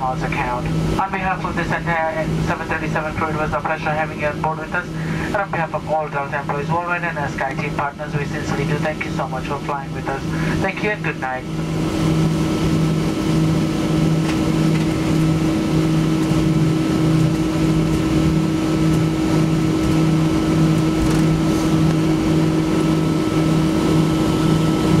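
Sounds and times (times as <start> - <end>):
aircraft cabin engine drone: 0.0 - 25.0.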